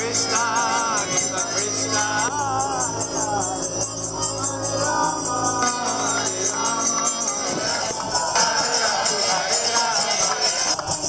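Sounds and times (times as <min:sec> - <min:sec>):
hand cymbals jingling: 0:00.0 - 0:11.0
voices chanting: 0:00.0 - 0:11.0.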